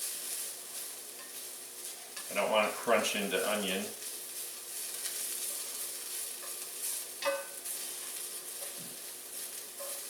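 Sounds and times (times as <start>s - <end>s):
onions sizzling in a frying pan: 0.0s - 10.0s.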